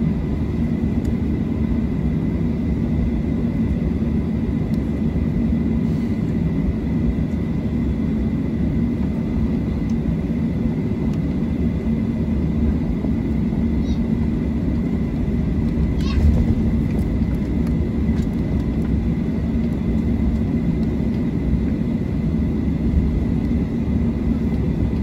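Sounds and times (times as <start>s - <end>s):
faint high engine whine: 0.0s - 25.0s
jet engines low rumble: 0.0s - 25.0s.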